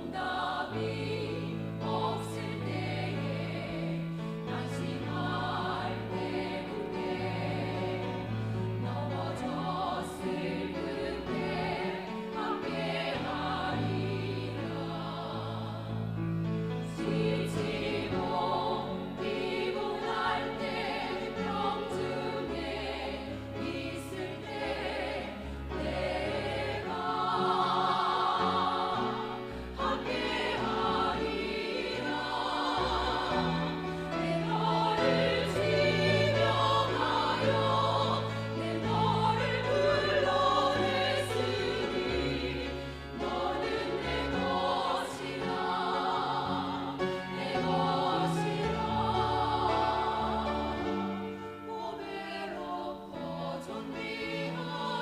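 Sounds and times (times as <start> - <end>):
vocal ensemble singing gospel: 0.0 - 55.0.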